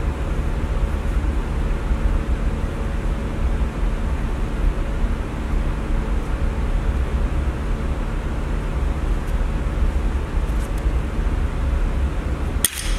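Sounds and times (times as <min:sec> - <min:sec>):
low mechanical rumble with hiss: 0:00.0 - 0:12.9.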